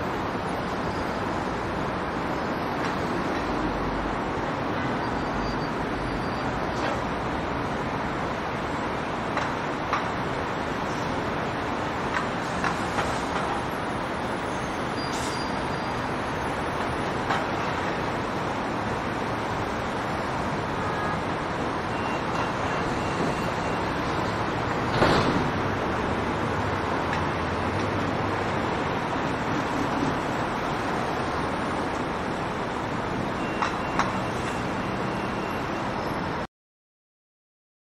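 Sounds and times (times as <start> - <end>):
heavy vehicles running: 0.0 - 36.5
road traffic: 0.0 - 36.5.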